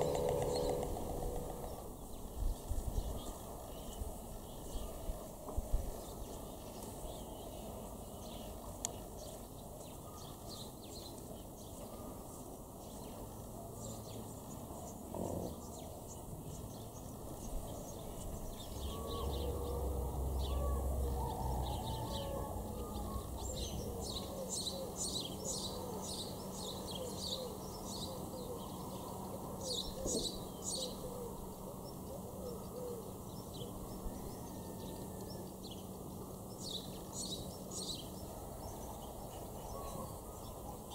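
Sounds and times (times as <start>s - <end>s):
small birds chirping: 0.0s - 5.1s, 5.9s - 40.9s.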